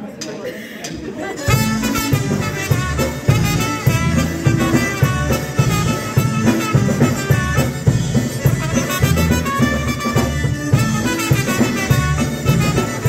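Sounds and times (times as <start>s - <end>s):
room chatter: 0.0s - 13.0s
polka band playing: 1.3s - 13.0s
trumpet: 1.5s - 13.0s.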